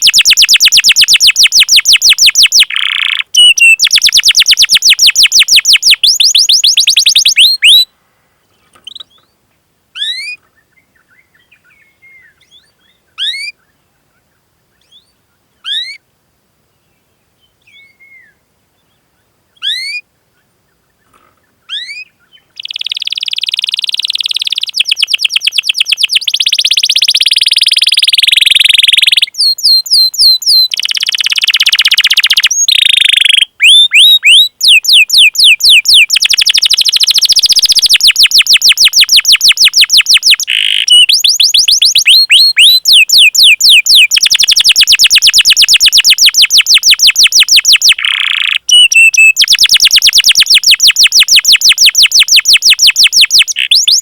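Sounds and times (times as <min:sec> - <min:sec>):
canary singing trills: 0:00.0 - 0:07.9, 0:08.7 - 0:09.4, 0:10.0 - 0:16.0, 0:17.4 - 0:20.0, 0:21.0 - 0:54.0.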